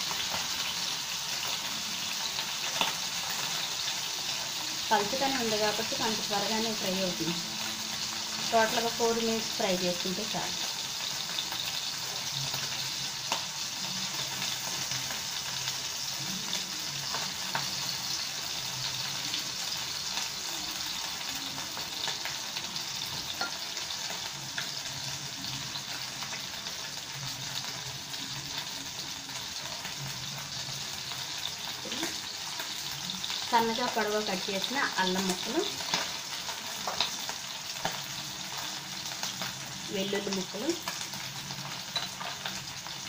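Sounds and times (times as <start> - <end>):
chicken sizzling in oil: 0.0 - 43.0.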